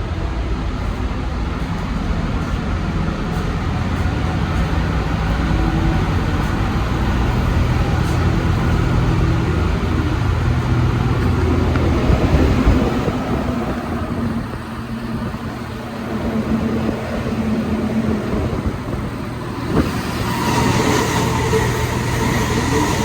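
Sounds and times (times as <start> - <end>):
metro train interior rumble: 0.0 - 23.0.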